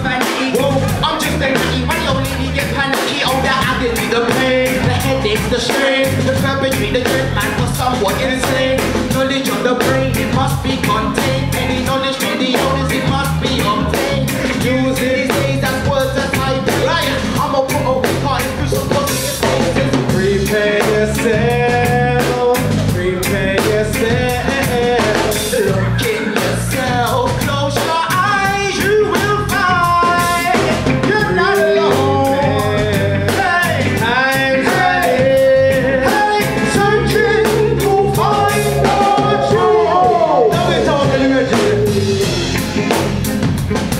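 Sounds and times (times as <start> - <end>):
vocalists singing and chanting: 0.0 - 43.3
drum kit: 0.0 - 43.9
guitars: 0.0 - 43.9
reggae band playing: 0.0 - 43.9.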